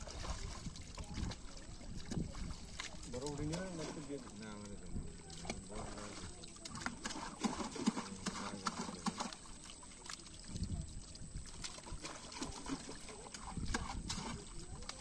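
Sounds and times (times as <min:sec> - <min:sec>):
fish flapping and splashing: 0:00.0 - 0:15.0
trickling water: 0:00.0 - 0:15.0.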